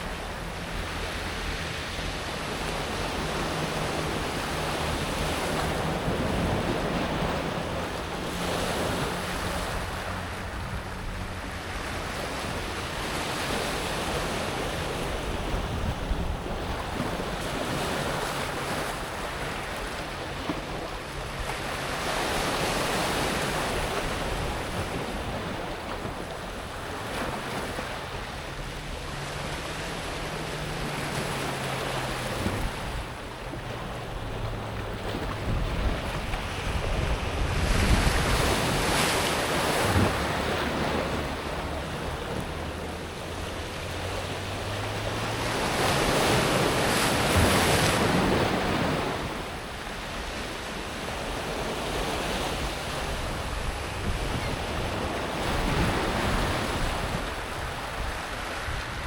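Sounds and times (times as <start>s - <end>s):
waves washing over pebbles: 0.0s - 59.0s.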